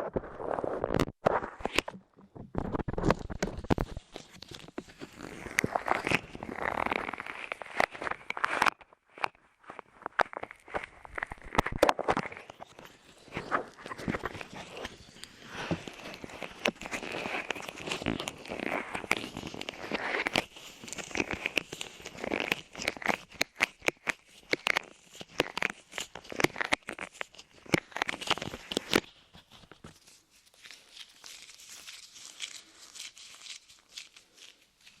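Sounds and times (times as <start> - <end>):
clay crackling on microphone: 0.0 - 35.0.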